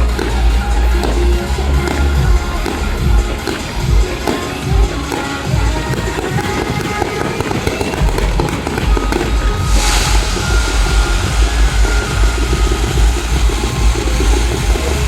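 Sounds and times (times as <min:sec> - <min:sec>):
fireworks crackling hiss: 0:00.0 - 0:15.0
loud music: 0:00.0 - 0:15.0
fireworks thumps: 0:01.8 - 0:15.0.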